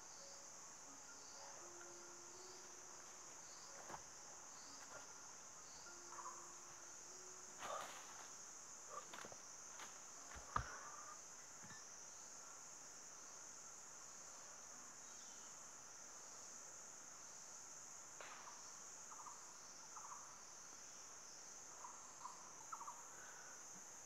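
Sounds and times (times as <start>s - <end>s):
forest insects droning: 0.0s - 24.0s.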